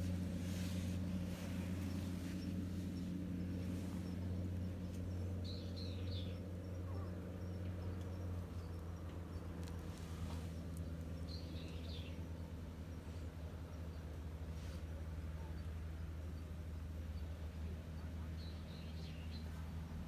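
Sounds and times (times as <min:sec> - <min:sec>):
steady low hum: 0:00.0 - 0:20.0
small bird chirping: 0:00.6 - 0:19.9.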